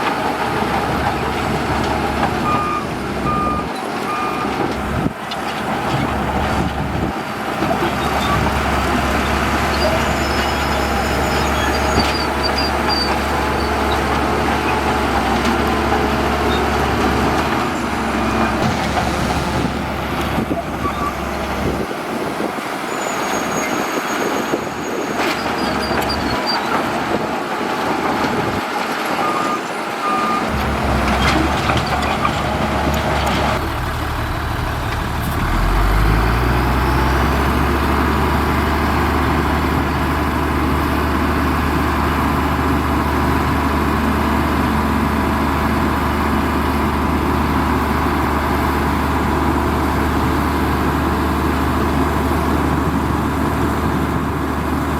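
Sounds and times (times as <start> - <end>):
heavy diesel machinery running: 0.0 - 54.9.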